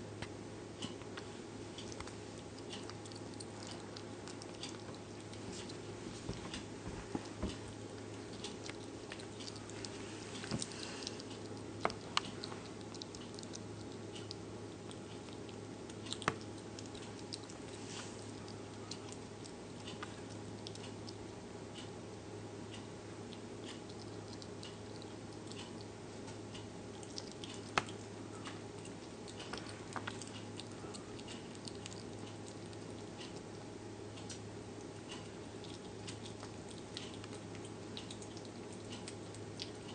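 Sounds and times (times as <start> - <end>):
steady low hum: 0.0 - 39.9
animal chewing clicks and smacks: 0.1 - 39.9.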